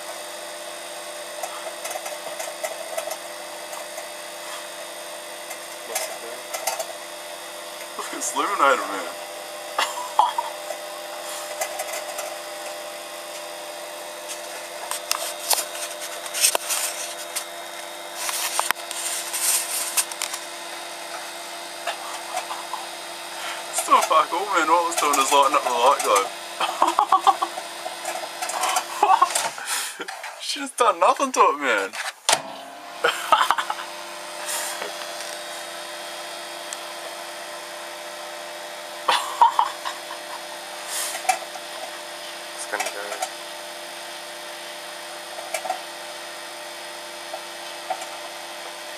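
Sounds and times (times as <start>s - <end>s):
microwave oven humming: 0.0s - 48.9s.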